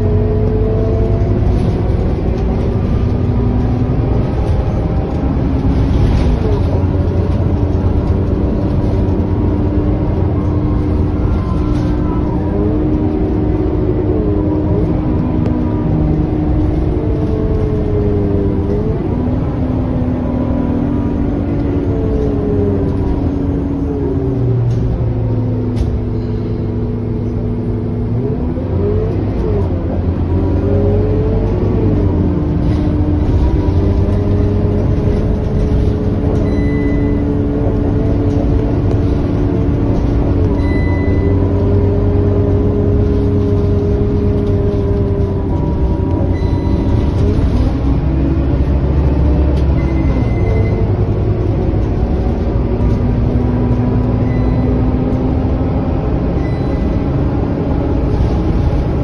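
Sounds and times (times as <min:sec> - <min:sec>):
bus diesel engine drone: 0:00.0 - 0:59.0
tyre and road noise: 0:00.0 - 0:59.0.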